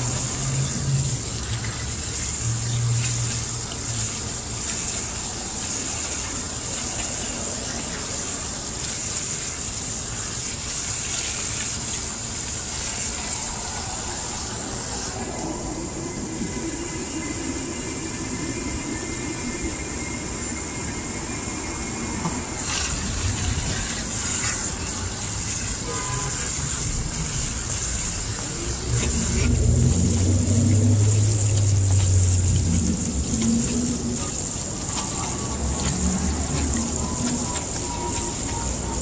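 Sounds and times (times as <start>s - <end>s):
water filling plastic jug: 0.0s - 15.7s, 22.1s - 39.0s
water running from tap: 0.0s - 39.0s.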